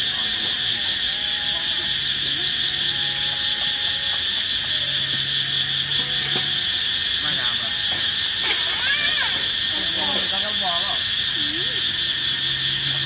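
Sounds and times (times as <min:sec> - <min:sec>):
crickets and night insects trilling: 0:00.0 - 0:13.0.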